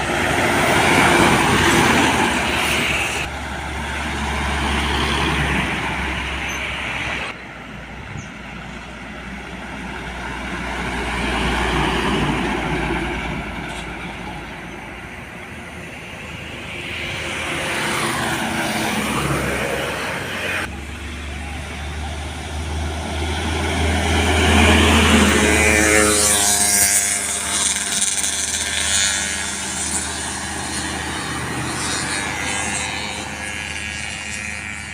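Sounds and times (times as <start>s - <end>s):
trucks driving past: 0.0s - 34.9s.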